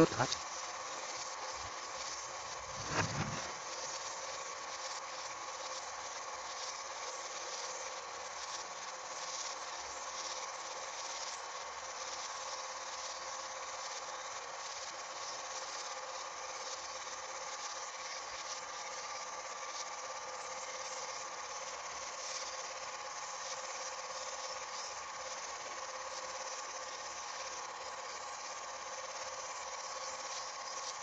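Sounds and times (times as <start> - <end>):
film projector whirring: 0.0 - 31.0.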